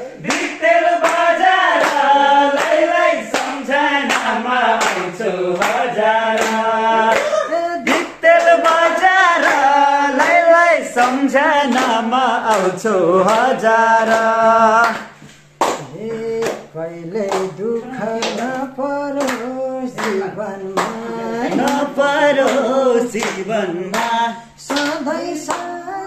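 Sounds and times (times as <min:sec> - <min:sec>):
men singing together: 0:00.0 - 0:26.0
hand clapping: 0:00.2 - 0:26.0.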